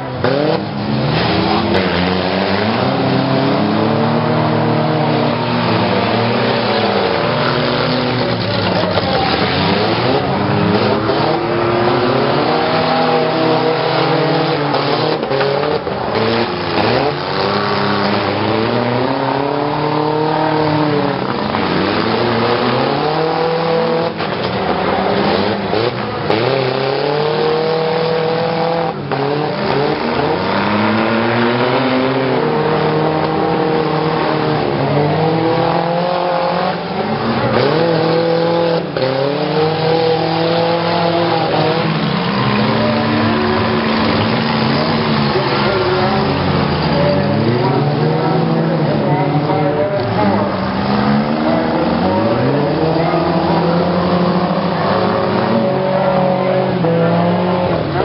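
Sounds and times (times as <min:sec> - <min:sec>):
truck engines revving: 0:00.0 - 0:58.0
vehicles crashing: 0:00.0 - 0:58.0.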